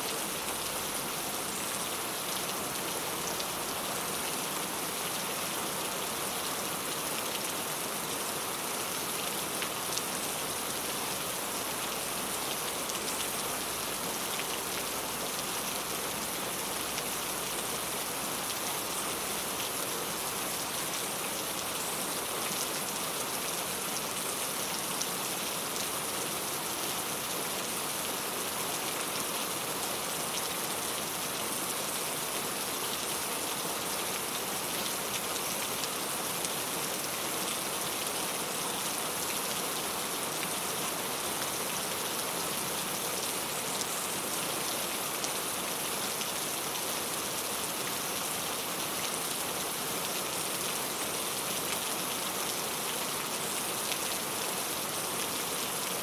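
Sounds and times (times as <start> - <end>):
rain on a tile roof: 0.0 - 56.0.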